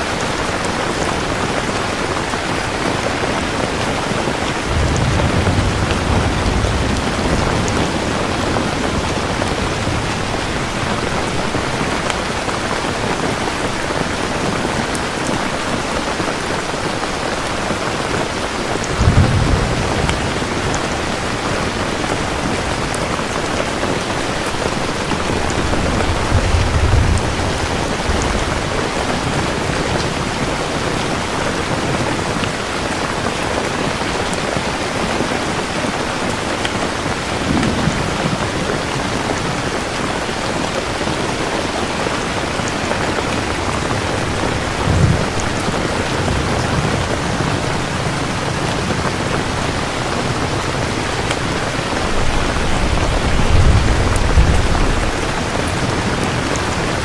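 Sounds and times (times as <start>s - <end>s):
heavy rain: 0.0s - 57.0s
low thunder rumbles: 2.5s - 31.9s, 37.3s - 57.0s.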